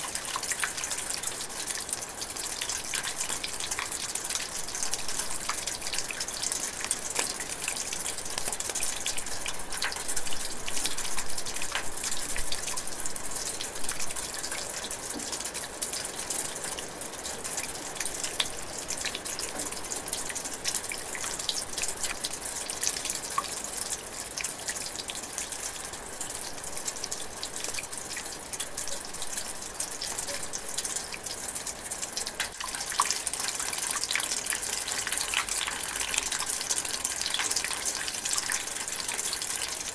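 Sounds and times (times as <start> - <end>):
rain drizzling: 0.0 - 39.9.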